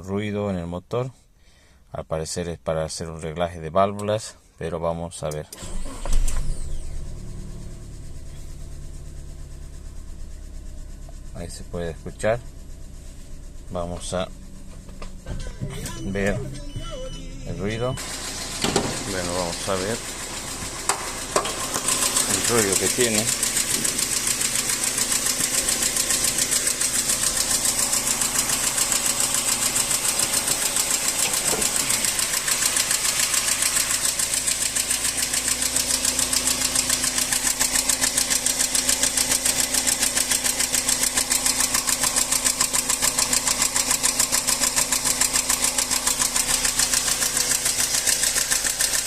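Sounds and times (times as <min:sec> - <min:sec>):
car engine idling: 0:05.6 - 0:49.0.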